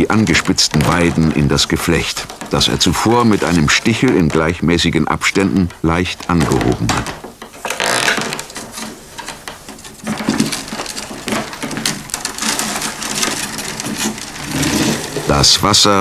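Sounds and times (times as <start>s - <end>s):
rustling of long rods: 0.0s - 16.0s
willow rods creaking and crackling: 0.0s - 16.0s.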